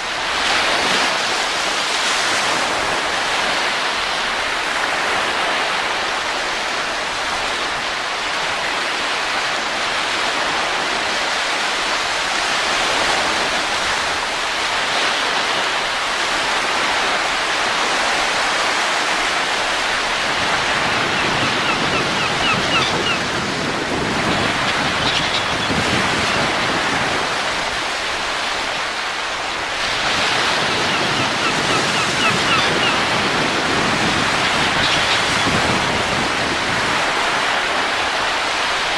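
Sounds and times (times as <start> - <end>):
rushing wind: 0.0 - 38.9.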